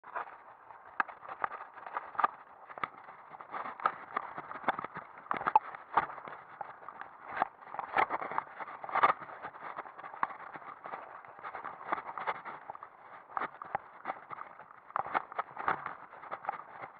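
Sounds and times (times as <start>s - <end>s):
mountain bike rattling on rocks: 0.1s - 16.9s.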